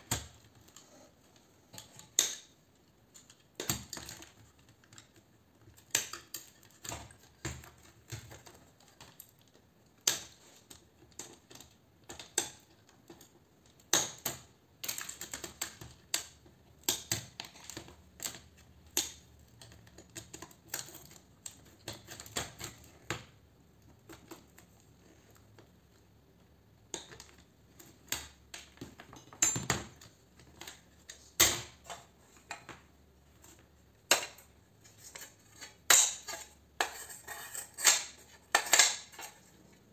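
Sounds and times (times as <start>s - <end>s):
metallic clicks and clinks of parts: 1.7s - 26.0s, 26.8s - 39.9s.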